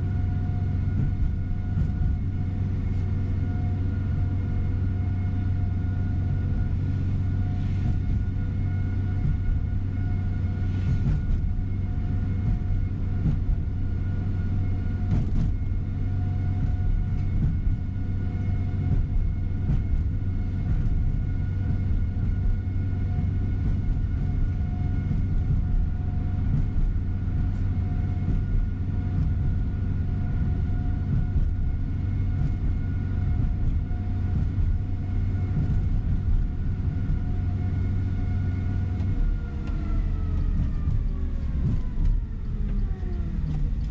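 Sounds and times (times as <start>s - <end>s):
coach engine and road drone: 0.0s - 43.9s
faint whining tones: 0.0s - 43.9s.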